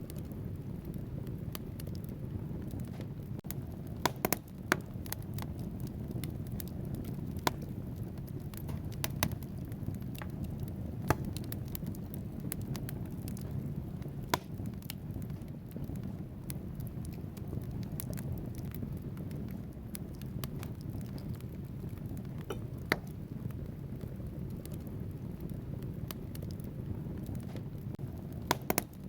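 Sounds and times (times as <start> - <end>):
logs crackling and popping: 0.0 - 29.0
low rumble of flames: 0.0 - 29.0.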